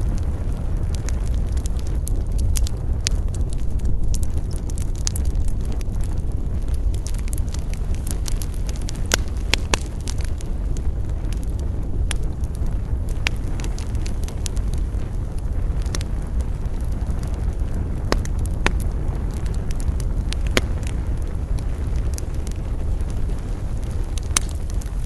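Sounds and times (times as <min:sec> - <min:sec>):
campfire wood crackling: 0:00.0 - 0:25.0
low fire rushing: 0:00.0 - 0:25.0.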